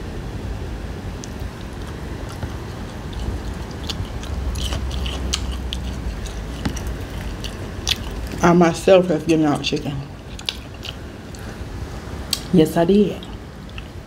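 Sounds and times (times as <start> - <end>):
steady low hum: 0.0 - 14.0
chewing crisp fried fish: 1.2 - 11.7, 13.2 - 14.0.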